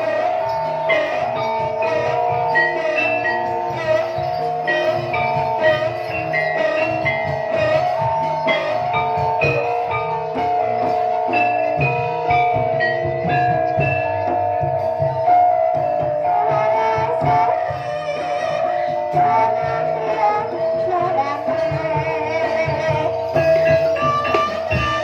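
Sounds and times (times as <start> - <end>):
drum beats: 0.0 - 25.0
tuned mallet instruments melody: 0.0 - 25.0.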